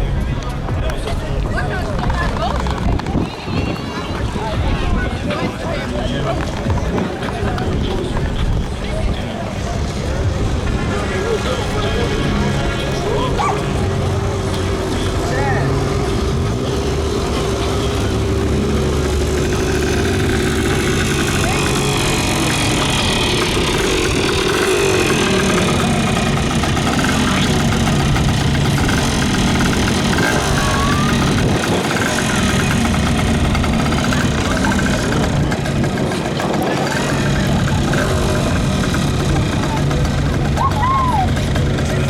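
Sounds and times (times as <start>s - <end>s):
car engines idling: 0.0s - 42.0s.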